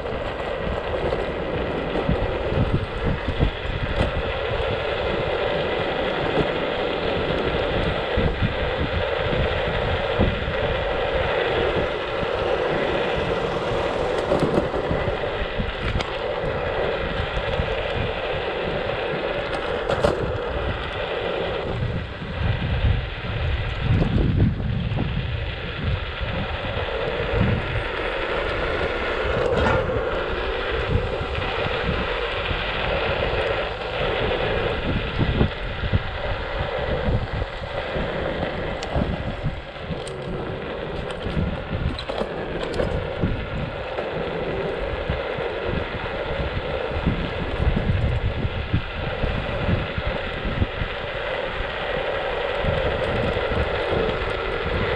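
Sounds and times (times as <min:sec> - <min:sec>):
scooter motor running: 0:00.0 - 0:54.9
wind buffeting microphone: 0:00.0 - 0:54.9.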